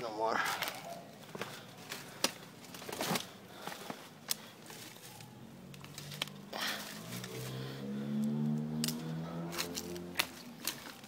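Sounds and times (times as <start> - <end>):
footsteps crunching through dry leaves: 0.4 - 11.0.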